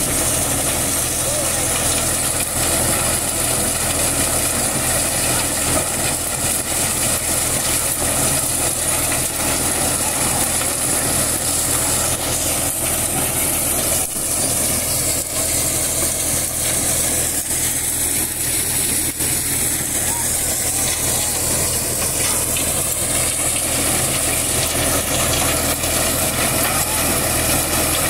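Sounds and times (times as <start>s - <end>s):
corn thresher mechanical din: 0.0s - 28.0s
tractor engine running: 0.0s - 28.0s.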